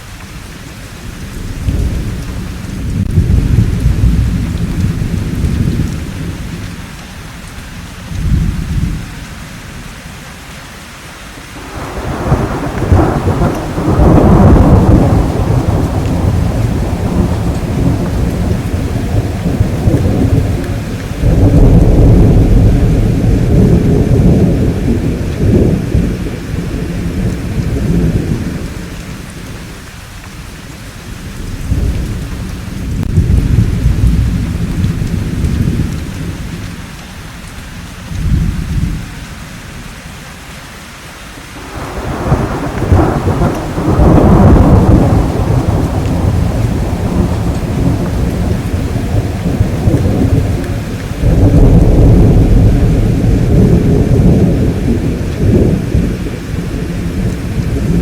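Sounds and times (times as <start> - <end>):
steady rainfall: 0.0 - 58.0
rolling thunder: 1.1 - 6.8, 11.6 - 29.9, 31.0 - 36.8, 38.1 - 39.1, 41.6 - 58.0.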